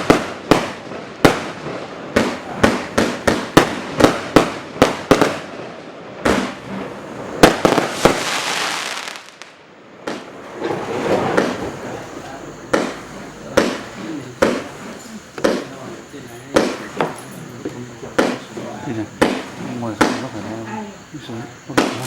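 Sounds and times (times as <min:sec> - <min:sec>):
firework bangs: 0:00.0 - 0:22.0
firework hiss: 0:00.0 - 0:22.0.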